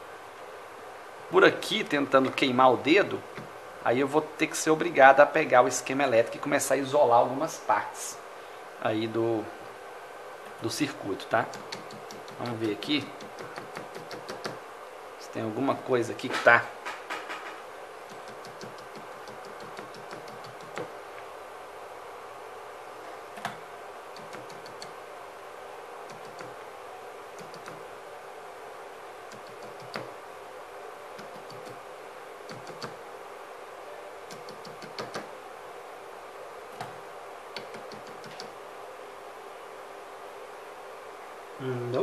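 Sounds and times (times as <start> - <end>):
steady background hum: 0.0 - 42.0.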